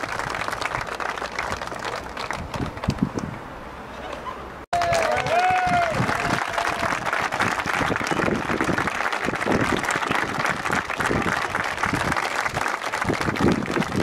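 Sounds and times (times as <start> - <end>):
crowd applauding: 0.0 - 3.0, 4.7 - 14.0.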